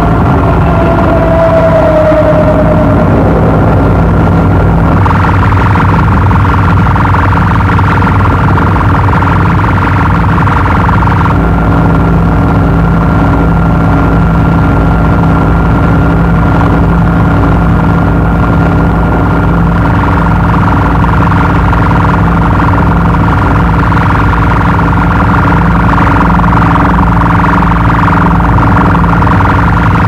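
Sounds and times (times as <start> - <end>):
distorted droning hum: 0.0 - 30.0
thin high whine: 0.0 - 30.0.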